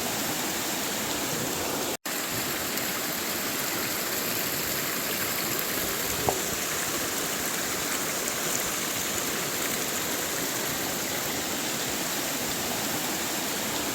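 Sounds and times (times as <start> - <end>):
river water flowing: 0.0 - 13.9.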